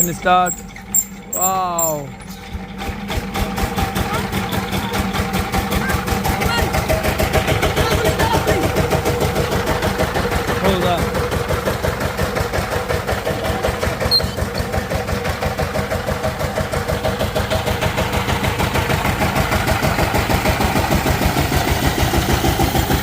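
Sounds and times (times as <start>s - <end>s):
diesel engine running steadily: 0.0s - 23.0s.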